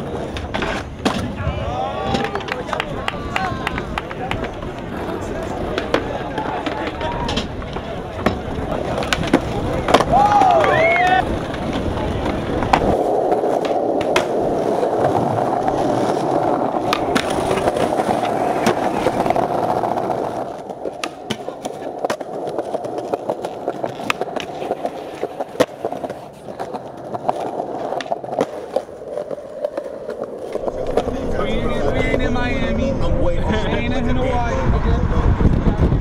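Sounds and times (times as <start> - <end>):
skateboard clacks: 0.0 - 32.6
skateboard wheels rolling on concrete: 0.0 - 36.0.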